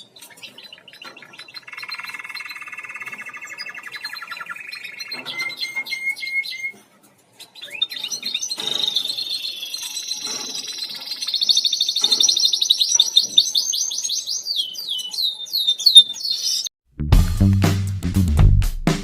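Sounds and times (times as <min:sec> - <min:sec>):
canary singing: 0:00.0 - 0:06.8, 0:07.4 - 0:16.7.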